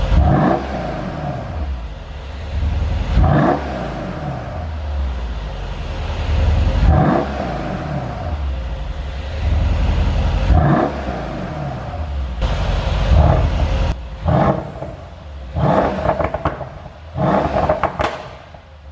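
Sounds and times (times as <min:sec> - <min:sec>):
car engine revving with exhaust pops: 0:00.0 - 0:18.9.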